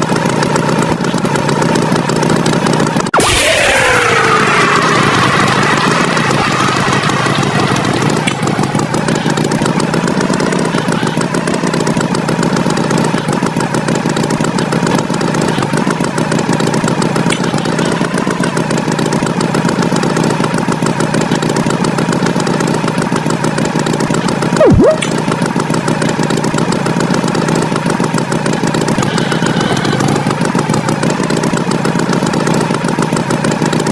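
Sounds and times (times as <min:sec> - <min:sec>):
tractor engine chugging: 0:00.0 - 0:33.9.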